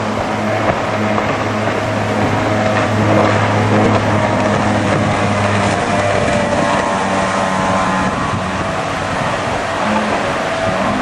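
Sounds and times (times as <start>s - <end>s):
boat engine droning at high revs: 0.0s - 11.0s.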